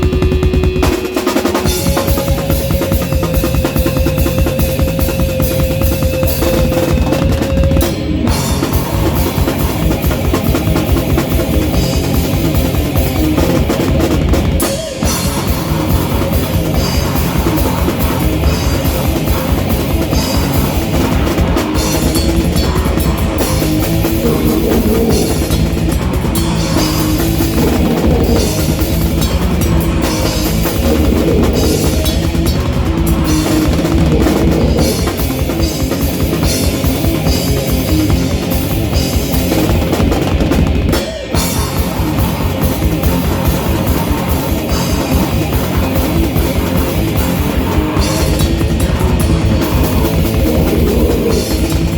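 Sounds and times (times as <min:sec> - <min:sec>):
drum kit and bass drum: 0:00.0 - 0:51.9
live rock band playing: 0:00.0 - 0:51.9.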